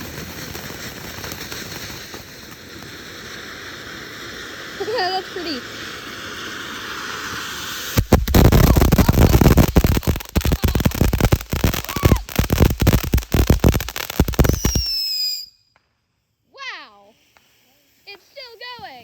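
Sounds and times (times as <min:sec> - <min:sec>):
firework whistle: 0:00.0 - 0:15.8
firework fountain hissing and crackling: 0:00.0 - 0:19.0.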